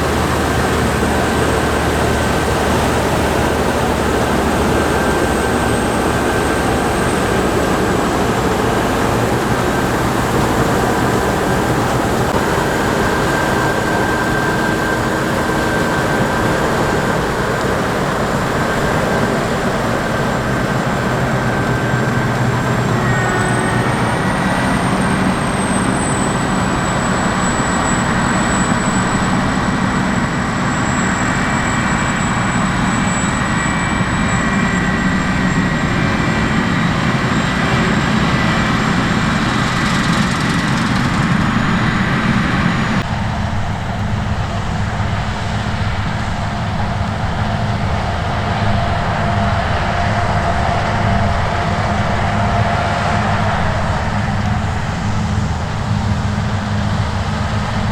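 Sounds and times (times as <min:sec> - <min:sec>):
deep engine drone: 0:00.0 - 0:57.9
high-pitched machine whine: 0:00.0 - 0:57.9.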